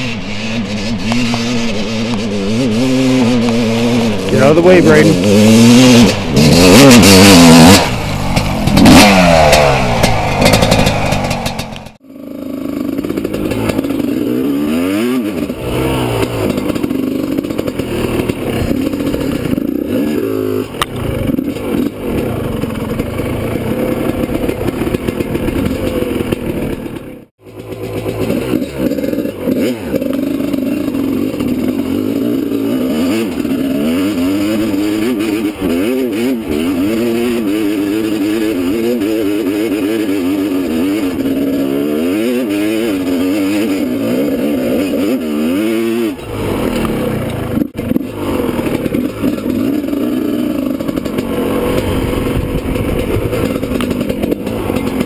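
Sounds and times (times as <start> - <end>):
two-stroke dirt bike revving: 0.0 - 55.0.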